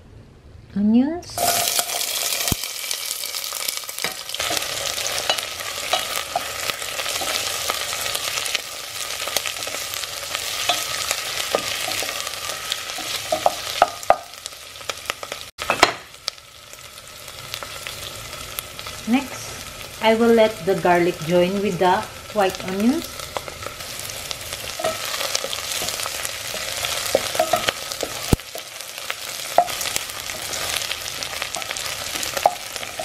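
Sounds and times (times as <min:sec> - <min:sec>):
onions sizzling in hot oil: 0:01.4 - 0:33.0.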